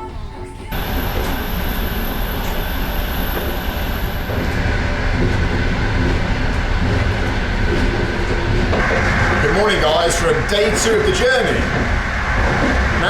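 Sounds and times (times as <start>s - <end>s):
train rumbling on rails: 0.0s - 13.0s
high thin whine: 0.7s - 13.0s.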